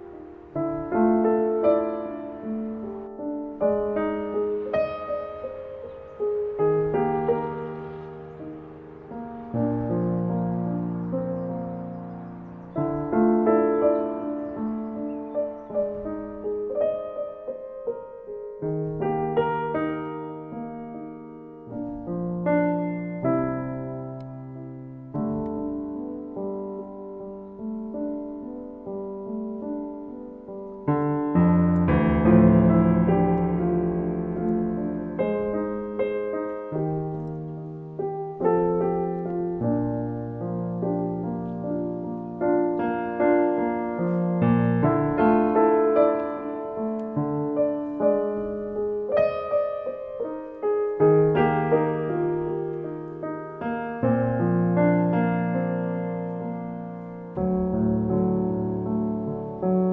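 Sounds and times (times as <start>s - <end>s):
slow gentle piano music: 0.0s - 59.9s.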